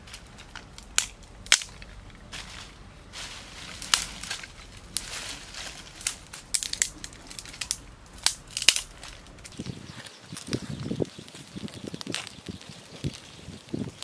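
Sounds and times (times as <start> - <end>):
dry sticks snapping: 0.0 - 14.0.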